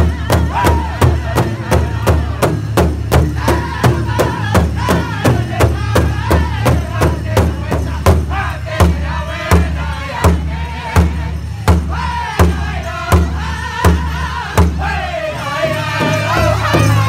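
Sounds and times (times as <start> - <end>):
drummers striking large drum: 0.0 - 15.0
high-pitched group singing: 0.0 - 17.0.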